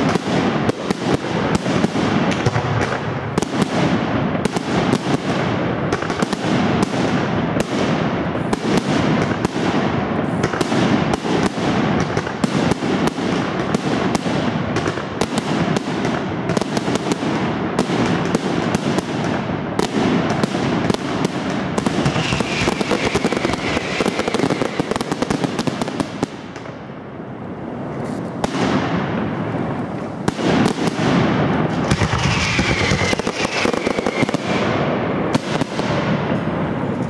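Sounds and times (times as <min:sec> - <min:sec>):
fireworks bursting: 0:00.0 - 0:37.0
fireworks crackling: 0:00.0 - 0:37.0.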